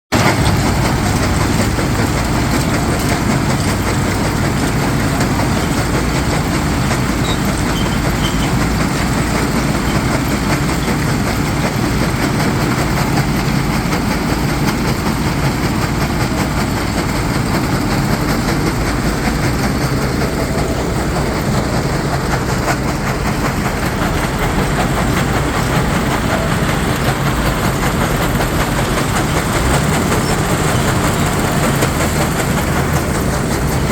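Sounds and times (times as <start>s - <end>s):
stone crusher rumbling: 0.2s - 33.9s.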